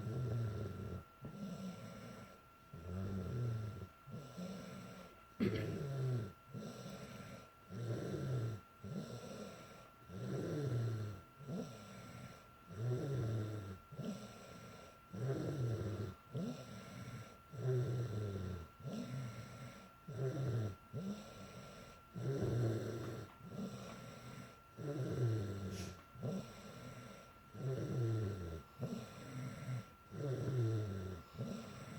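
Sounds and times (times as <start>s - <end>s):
girl snoring: 0.0s - 31.9s.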